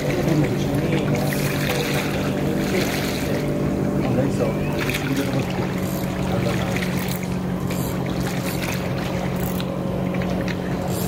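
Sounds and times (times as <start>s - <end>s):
motor humming: 0.0s - 11.0s
splashes: 0.0s - 11.0s.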